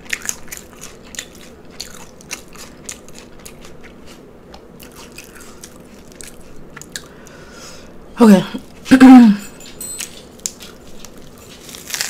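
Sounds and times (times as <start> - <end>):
person chewing food: 0.0 - 8.0, 9.5 - 12.0.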